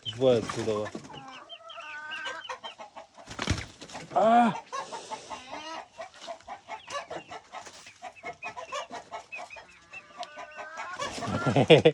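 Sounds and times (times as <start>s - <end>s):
chickens clucking: 0.0s - 11.9s.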